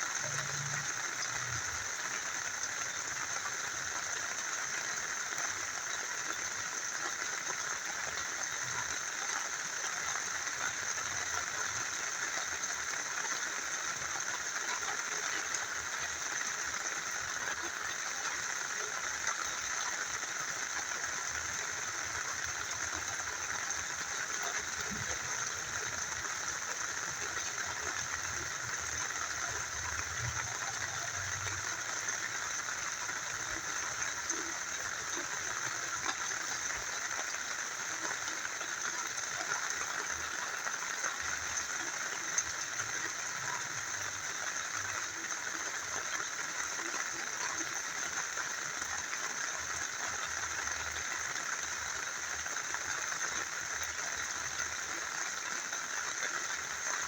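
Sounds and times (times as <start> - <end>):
rain falling: 0.0 - 57.0
small stream flowing: 0.0 - 57.0.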